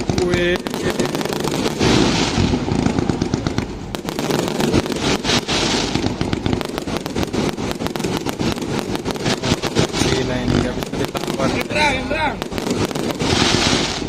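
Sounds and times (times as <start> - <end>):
firecrackers and fireworks banging: 0.0 - 14.0.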